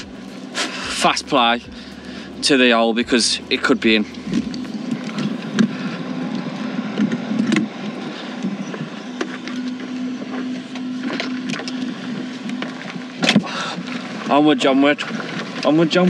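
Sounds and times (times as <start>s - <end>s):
golf cart motor hum: 0.0s - 15.8s.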